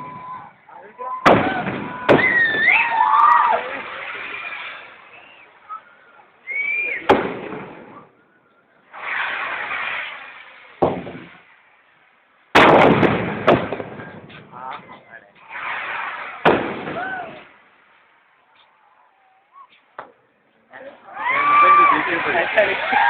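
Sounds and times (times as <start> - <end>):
fireworks bangs: 0.0 - 18.8, 21.2 - 23.0.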